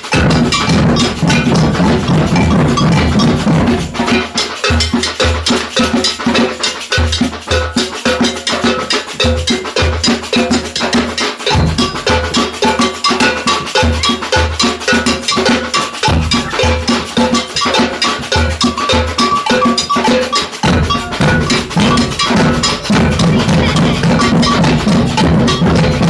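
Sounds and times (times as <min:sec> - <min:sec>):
agogo bell pattern: 0:00.0 - 0:26.0
snare drums: 0:00.0 - 0:26.0.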